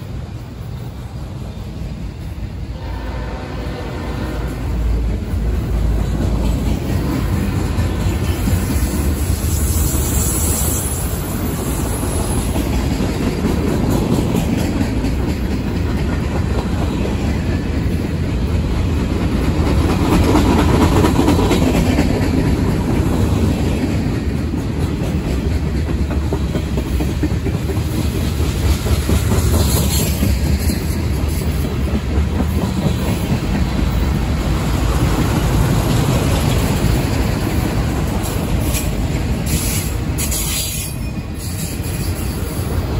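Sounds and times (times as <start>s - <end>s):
freight train cars rolling: 0.0s - 42.9s
wheels clickety-clack on rail joints: 0.0s - 42.9s.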